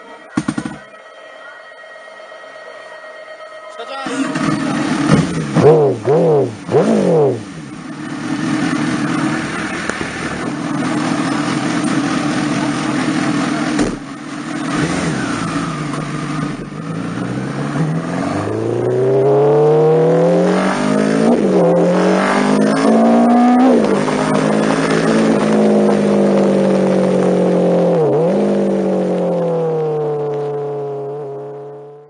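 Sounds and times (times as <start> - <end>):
motorcycle engine revving: 4.1 - 32.0.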